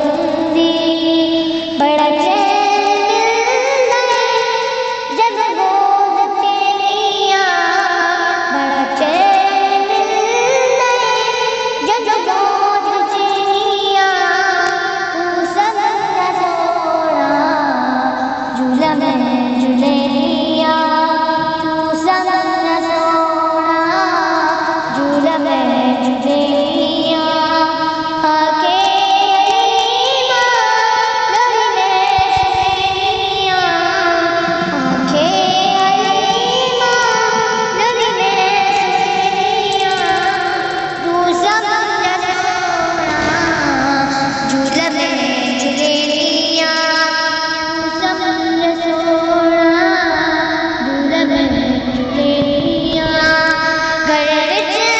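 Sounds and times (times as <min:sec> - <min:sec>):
devotional song in high voice: 0:00.0 - 0:54.9.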